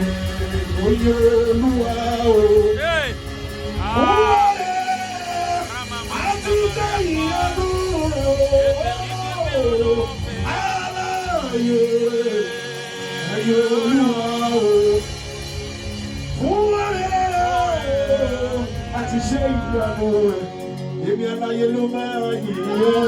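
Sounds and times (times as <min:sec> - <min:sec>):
man singing gospel song: 0:00.0 - 0:15.4, 0:16.3 - 0:23.0
drum and bass beat: 0:00.0 - 0:23.0
keyboard: 0:00.0 - 0:23.0.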